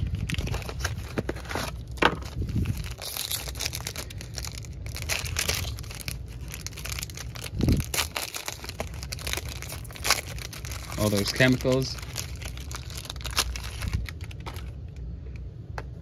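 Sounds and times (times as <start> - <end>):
foil pouch crinkling and tearing: 0.0 - 15.0.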